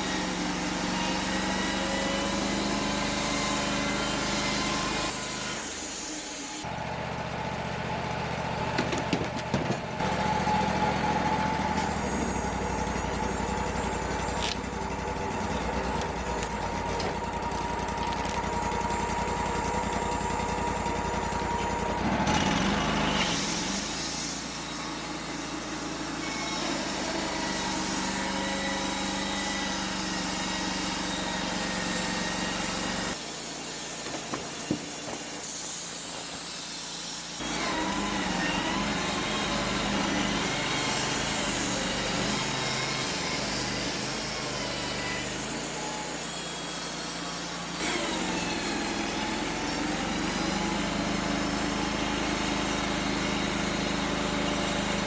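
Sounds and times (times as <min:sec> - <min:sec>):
bandsaw sawmill cutting log: 0:00.0 - 0:55.0.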